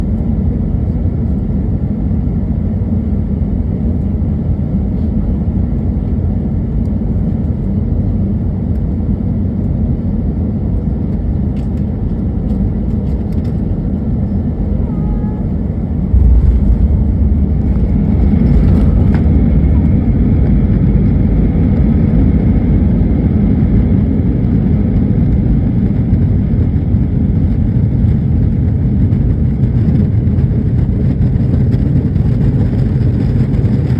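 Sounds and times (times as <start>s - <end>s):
airliner engine and airflow rumble: 0.0s - 33.9s.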